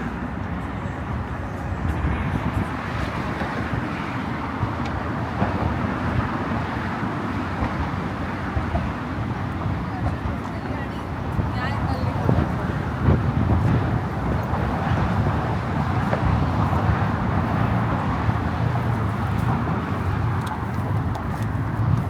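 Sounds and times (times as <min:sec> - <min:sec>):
motor traffic noise: 0:00.0 - 0:22.0
wind buffeting microphone: 0:00.0 - 0:22.0.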